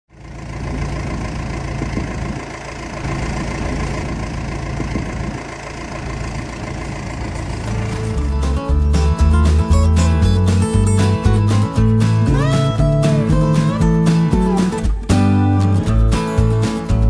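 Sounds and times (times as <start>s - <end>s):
diesel engine running: 0.1s - 17.0s.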